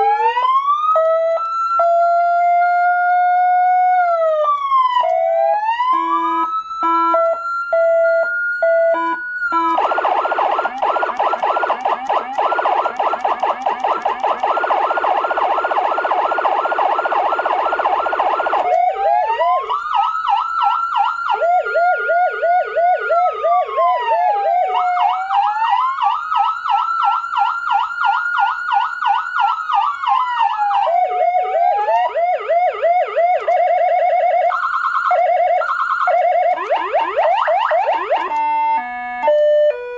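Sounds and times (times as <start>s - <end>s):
fast siren yelp: 0.0s - 39.9s
siren wail: 0.0s - 39.9s
two-tone hi-lo siren: 0.0s - 39.9s.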